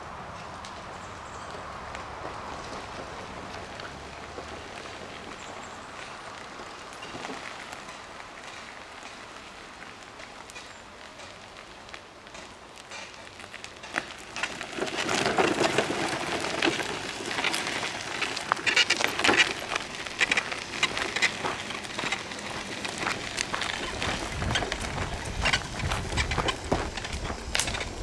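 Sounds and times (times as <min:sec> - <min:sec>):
gravel crunching under tyres: 0:00.0 - 0:28.0.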